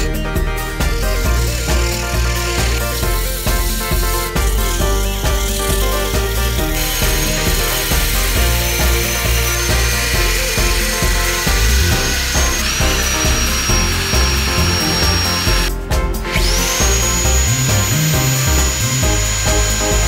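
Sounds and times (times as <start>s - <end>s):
background music with steady beat: 0.0s - 20.0s
power sander whining on wood: 0.8s - 15.7s, 16.3s - 20.0s.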